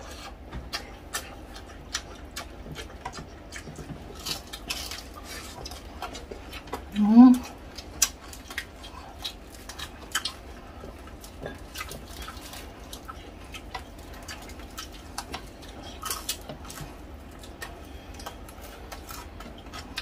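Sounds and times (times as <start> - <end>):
chewing and crunching crispy food: 0.0 - 20.0.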